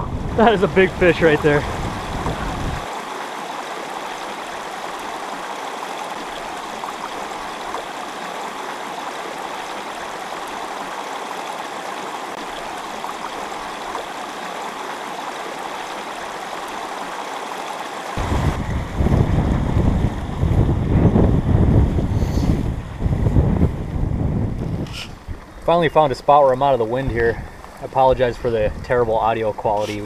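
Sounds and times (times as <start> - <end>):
stream water running over rocks: 0.0 - 21.3, 22.6 - 30.0.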